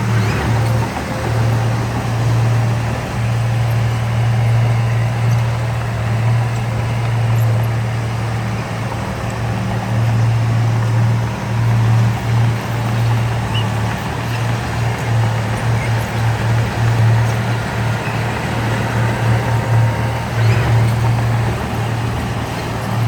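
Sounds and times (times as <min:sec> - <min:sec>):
heavy diesel engine humming: 0:00.0 - 0:23.0.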